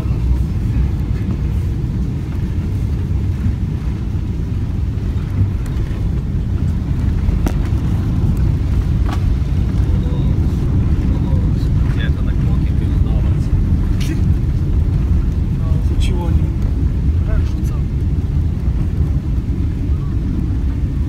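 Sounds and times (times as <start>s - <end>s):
airliner rumble: 0.0s - 21.0s.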